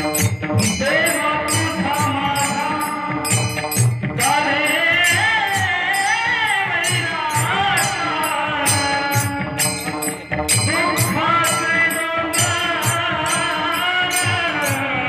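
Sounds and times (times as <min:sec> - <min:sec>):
low drum beat: 0:00.0 - 0:15.0
small hand cymbals: 0:00.0 - 0:15.0
man singing: 0:00.6 - 0:15.0.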